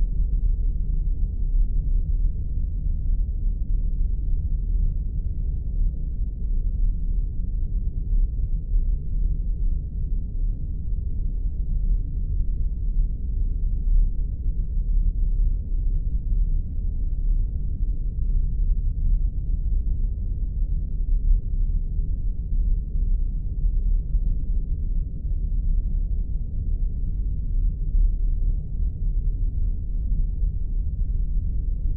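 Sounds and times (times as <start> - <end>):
deep rumbling drone: 0.0 - 31.9.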